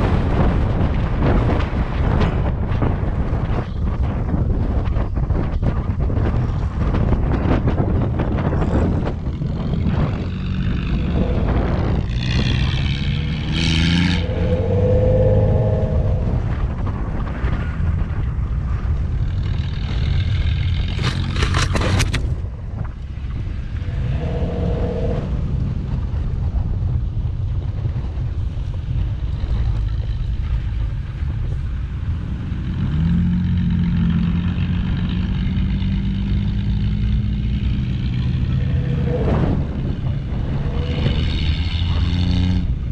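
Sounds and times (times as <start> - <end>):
truck engine rumbling: 0.0 - 42.9.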